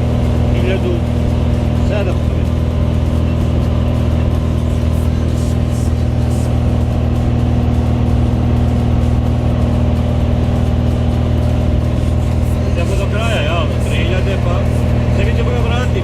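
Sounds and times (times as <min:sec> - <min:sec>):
airplane engine and propeller drone: 0:00.0 - 0:16.0.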